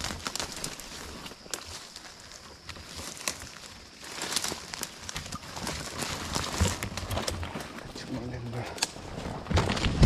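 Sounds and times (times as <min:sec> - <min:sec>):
footsteps through dry leaves: 0:00.0 - 0:10.0
twigs crackling: 0:00.0 - 0:10.0.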